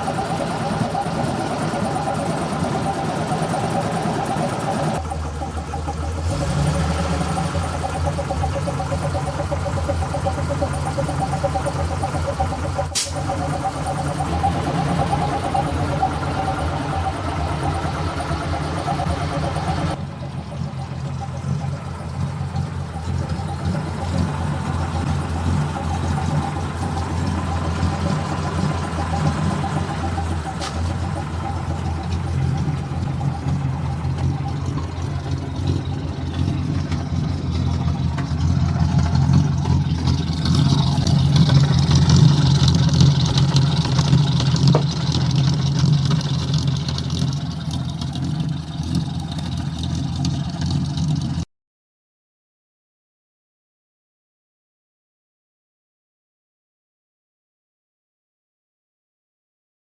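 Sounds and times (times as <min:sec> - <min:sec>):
truck engine idling: 0:00.0 - 0:51.4.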